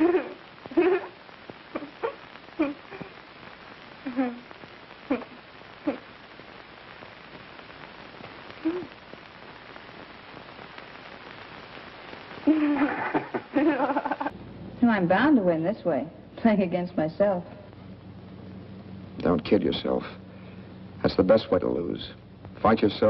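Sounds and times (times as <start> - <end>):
old film soundtrack hiss: 0.0 - 23.0.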